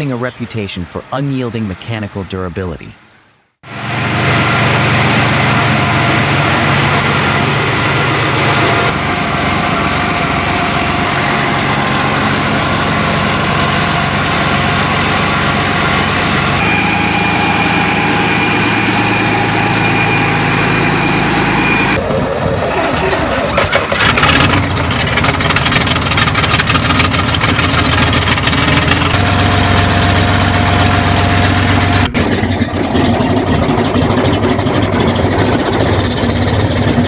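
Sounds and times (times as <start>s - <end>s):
diesel engine running: 3.7s - 37.0s.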